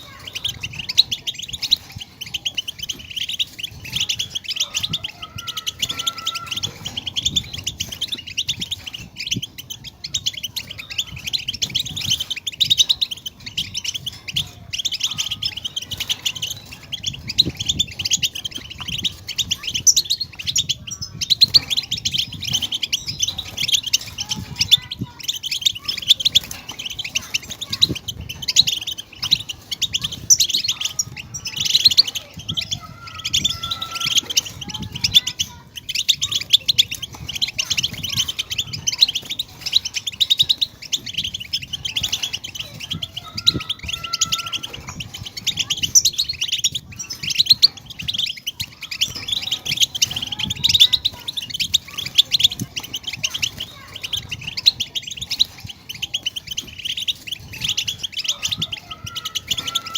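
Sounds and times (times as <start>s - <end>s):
finch twittering: 0.0s - 59.9s.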